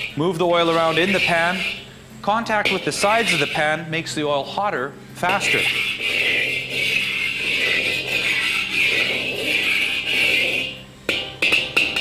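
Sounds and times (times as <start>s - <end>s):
metal spatula sweeping wok: 0.0s - 1.9s, 2.6s - 3.9s, 5.3s - 12.0s.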